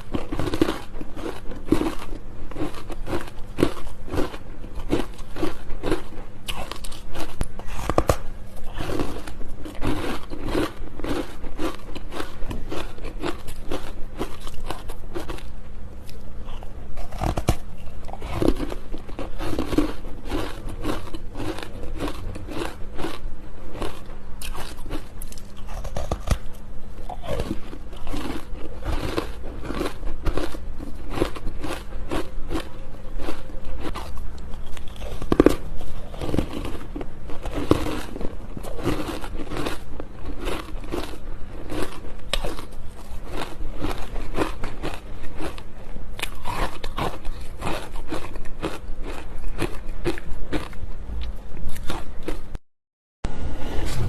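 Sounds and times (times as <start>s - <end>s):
faint steady hum: 0.0s - 52.6s, 53.2s - 54.0s
person crunching ice: 0.1s - 8.2s, 8.8s - 15.4s, 18.2s - 23.2s, 23.8s - 26.4s, 27.1s - 45.6s, 46.2s - 50.7s.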